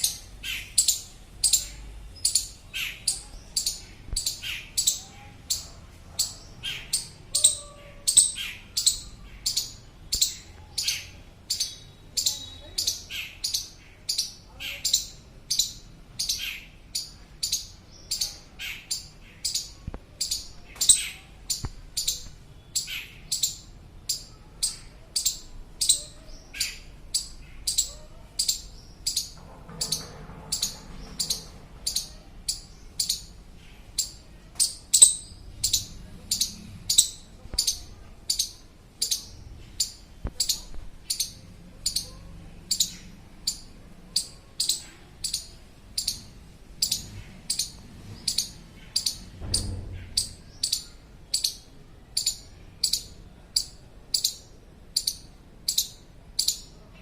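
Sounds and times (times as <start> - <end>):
squirrel chirping: 0.0 - 56.8.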